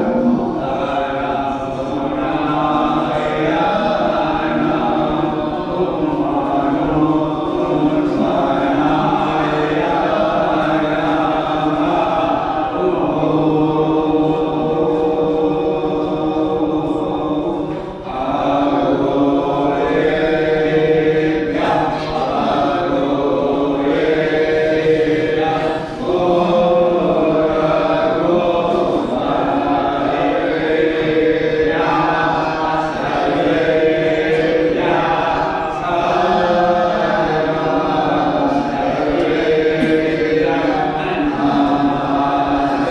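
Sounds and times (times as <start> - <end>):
voices chanting mantras: 0.0 - 42.9.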